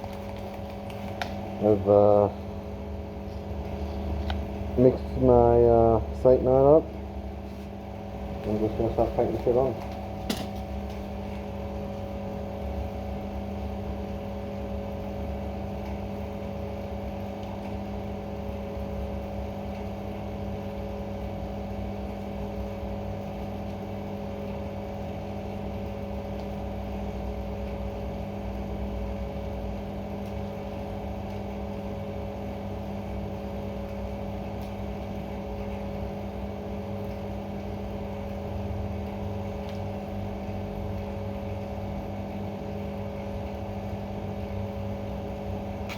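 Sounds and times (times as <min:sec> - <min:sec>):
steady machine hum: 0:00.0 - 0:45.9.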